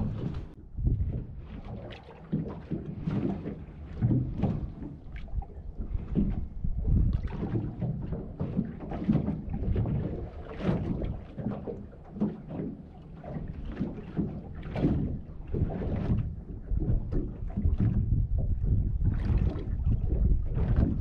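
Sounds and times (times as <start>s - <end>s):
water lapping against boat hull: 0.0s - 21.0s
wind rumble on microphone: 0.0s - 21.0s.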